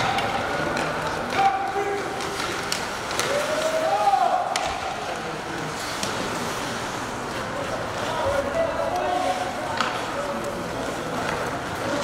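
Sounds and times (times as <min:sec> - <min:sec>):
arena background noise: 0:00.0 - 0:12.0
hockey sticks clicking on ice: 0:00.0 - 0:12.0.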